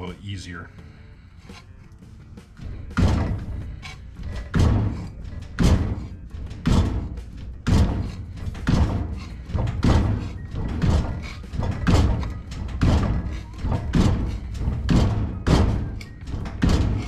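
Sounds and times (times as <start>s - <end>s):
metal shrinker clunking: 2.6s - 17.0s.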